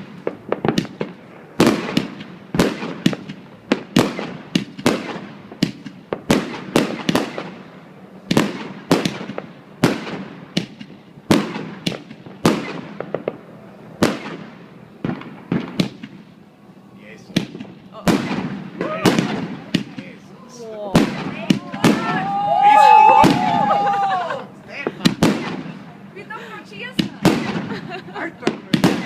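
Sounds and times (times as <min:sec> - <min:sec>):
fireworks banging: 0:00.0 - 0:16.4, 0:17.1 - 0:29.0.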